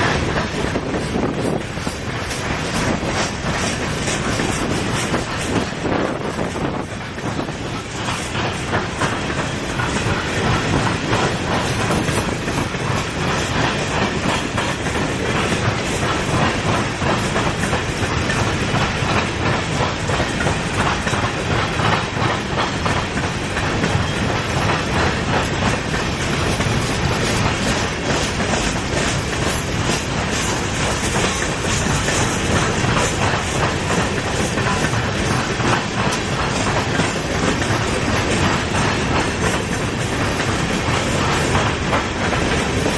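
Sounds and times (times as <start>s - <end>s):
train rumble and rattle: 0.0s - 42.9s
train wheels clicking over rail joints: 0.0s - 42.9s.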